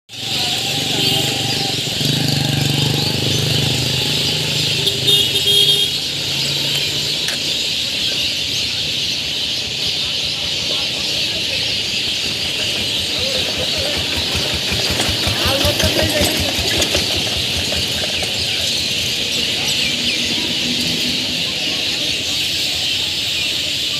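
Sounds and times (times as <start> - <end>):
birds chirping and chattering: 0.1 - 23.9.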